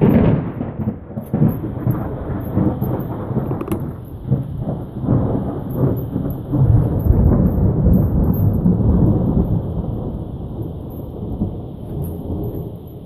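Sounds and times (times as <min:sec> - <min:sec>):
rolling thunder: 0:00.0 - 0:13.0.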